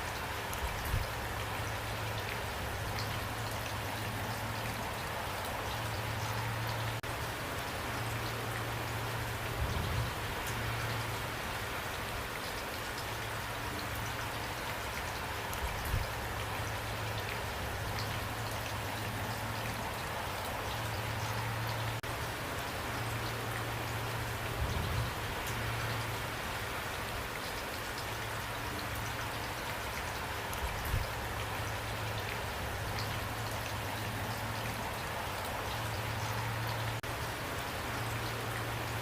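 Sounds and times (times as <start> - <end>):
raindrops ticking on surface: 0.0 - 39.0
steady rainfall hiss: 0.0 - 39.0.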